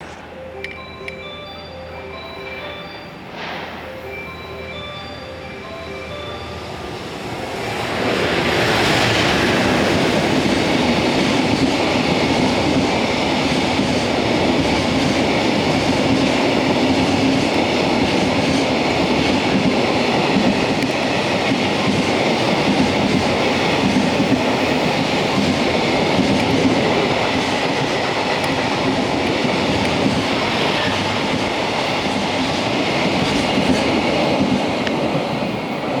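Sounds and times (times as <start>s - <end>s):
train wheels rumbling on rails: 6.7s - 36.0s.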